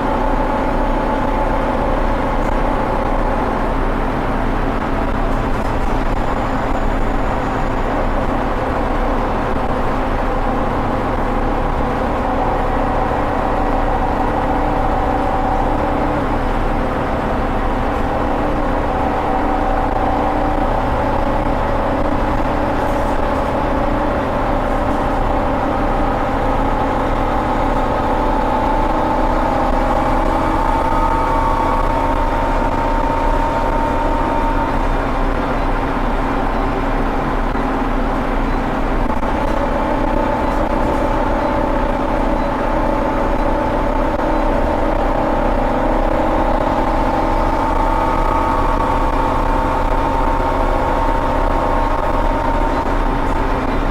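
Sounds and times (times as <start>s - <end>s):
bus diesel engine under load: 0.0s - 53.9s.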